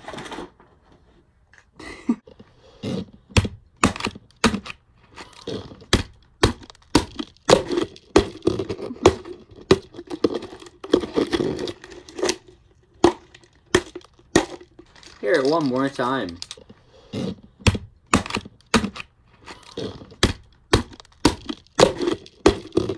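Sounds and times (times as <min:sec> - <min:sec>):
egg cracking: 0:03.2 - 0:16.8, 0:17.5 - 0:22.9.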